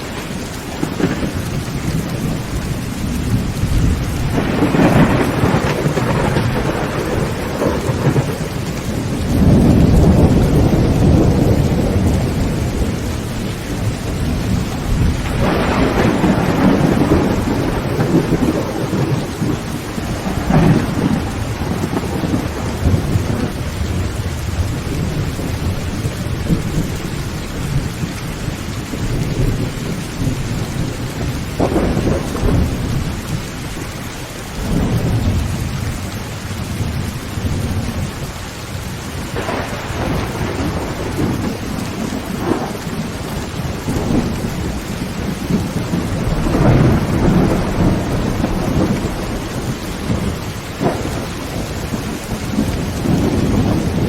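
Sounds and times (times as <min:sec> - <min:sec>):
thunder rolling: 0:00.0 - 0:33.9, 0:39.1 - 0:54.0
heavy rain on a tin roof: 0:00.0 - 0:54.0.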